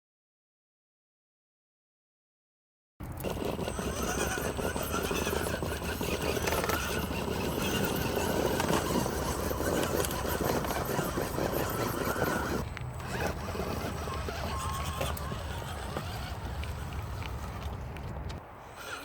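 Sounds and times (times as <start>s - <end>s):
electric motor whining: 3.0s - 19.0s
tires crackling over terrain: 3.0s - 19.0s.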